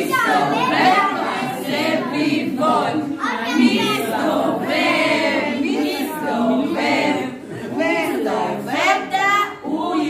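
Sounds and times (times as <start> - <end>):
group singing a cappella: 0.0 - 10.0.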